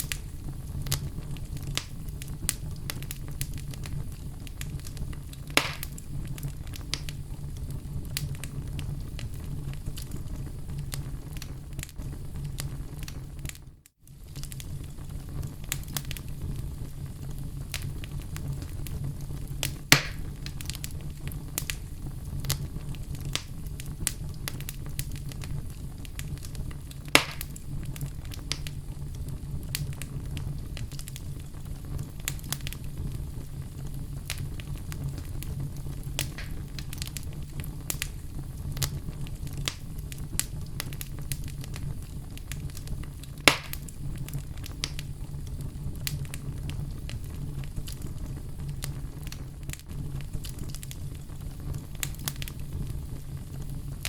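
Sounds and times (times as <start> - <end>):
fire crackling: 0.0 - 54.0
fire flames rumbling: 0.0 - 54.0
loud pops from fire: 0.0 - 54.0.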